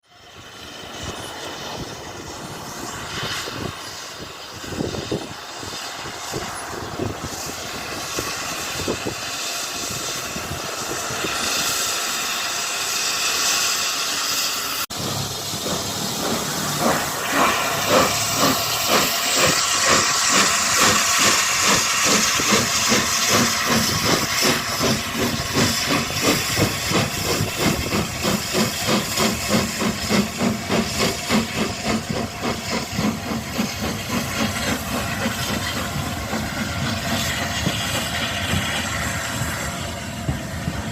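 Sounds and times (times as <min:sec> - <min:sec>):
steam hissing: 0:00.0 - 0:40.9
steam locomotive exhaust beats: 0:00.0 - 0:40.9.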